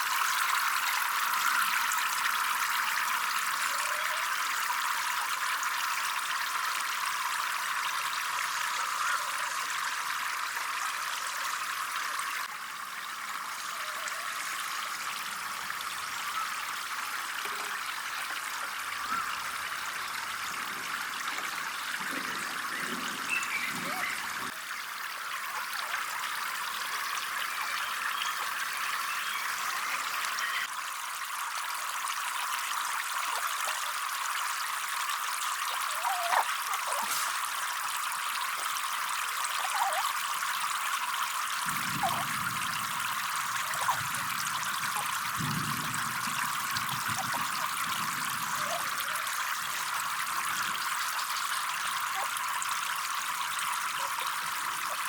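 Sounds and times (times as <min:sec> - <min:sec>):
water trickling and flowing: 0:00.0 - 0:55.0.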